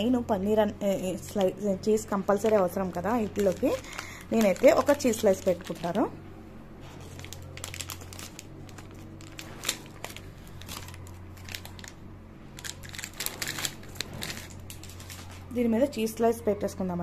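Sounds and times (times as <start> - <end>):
steady low hum: 0.0 - 17.0
plastic wrapper crinkling: 1.2 - 6.2, 6.8 - 15.6.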